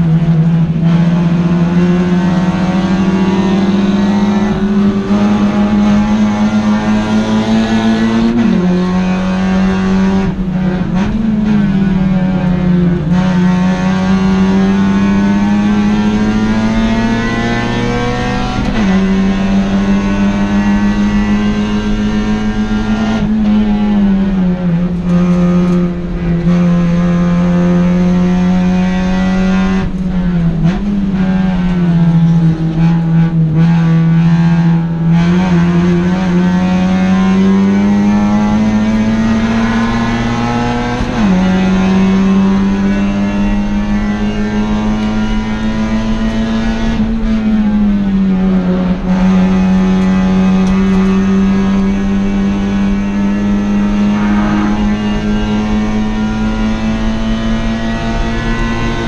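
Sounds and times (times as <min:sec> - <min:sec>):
race car engine from inside cabin: 0:00.0 - 0:59.0
road and wind noise: 0:00.0 - 0:59.0.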